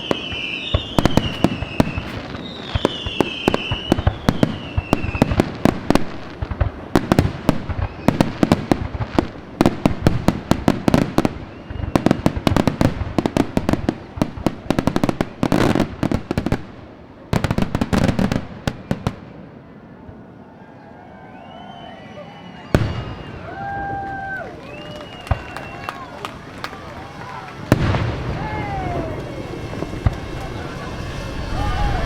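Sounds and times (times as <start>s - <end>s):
fireworks bangs and crackles: 0.0s - 20.4s, 22.5s - 32.0s.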